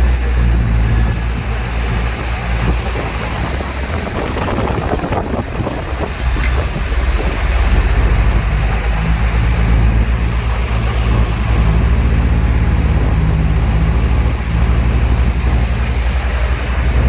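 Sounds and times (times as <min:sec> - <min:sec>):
heavy diesel engine droning: 0:00.0 - 0:17.0
rough rattling noise: 0:00.3 - 0:17.0.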